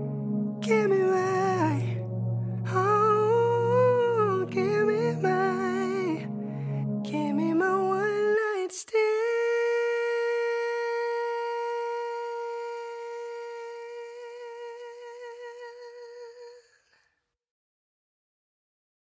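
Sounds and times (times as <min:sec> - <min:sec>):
person singing long held note: 0:00.0 - 0:16.7.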